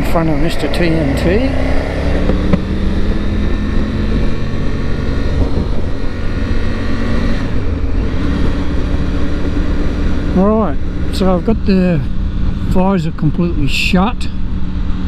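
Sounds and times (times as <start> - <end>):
heavy wind noise: 0.0 - 15.0
motorcycle engine running: 0.0 - 15.0
road noise: 0.0 - 15.0.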